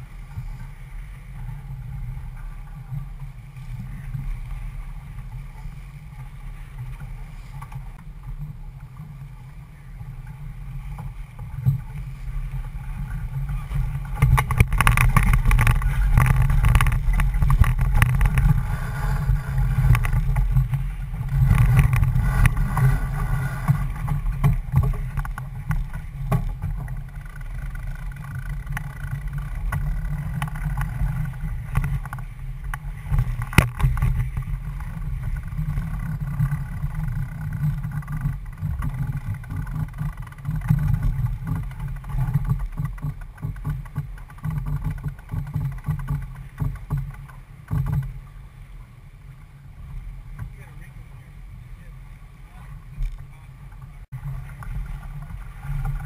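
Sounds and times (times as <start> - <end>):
water rushing along hull: 0.0 - 56.0
wind gusting on microphone: 0.0 - 56.0.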